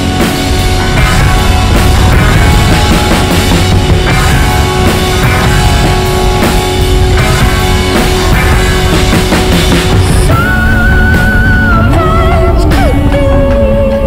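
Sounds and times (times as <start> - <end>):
rock music with drums and guitar: 0.0 - 14.0.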